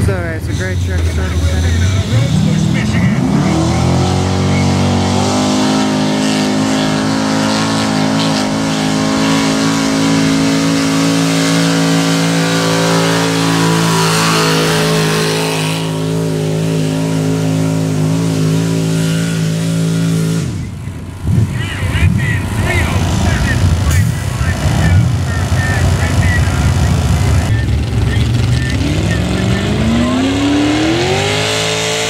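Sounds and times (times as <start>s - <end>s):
pickup engine at full throttle: 0.0s - 32.0s.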